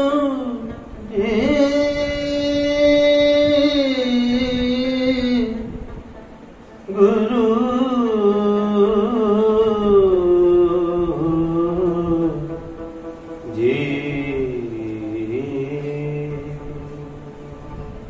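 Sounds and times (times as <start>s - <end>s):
bowed sarangi: 0.0s - 18.0s.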